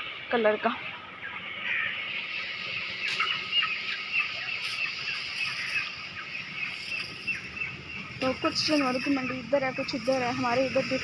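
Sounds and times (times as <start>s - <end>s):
birds chirping: 0.0s - 11.0s
high-pitched background hiss: 0.0s - 11.0s.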